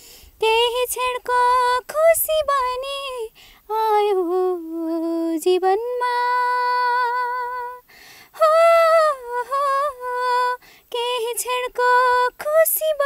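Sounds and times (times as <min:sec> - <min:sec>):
girl singing unaccompanied: 0:00.4 - 0:13.0.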